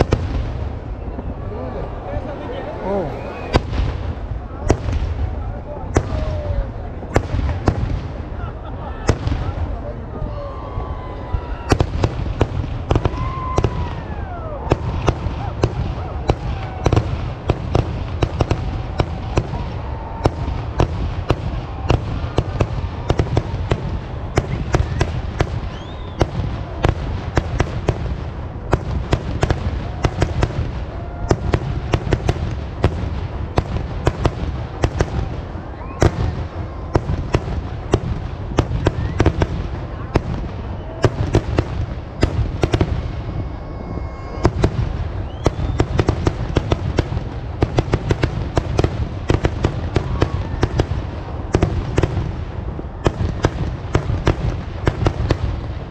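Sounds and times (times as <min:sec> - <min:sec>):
firecracker bangs: 0:00.0 - 0:00.9, 0:03.0 - 0:09.8, 0:11.5 - 0:55.9
steady low rumble: 0:00.0 - 0:55.9.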